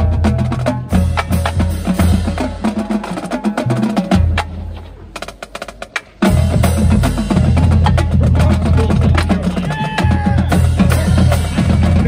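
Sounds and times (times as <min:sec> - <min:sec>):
pitched bass drums: 0:00.0 - 0:12.0
snare and tenor drums: 0:00.0 - 0:12.0.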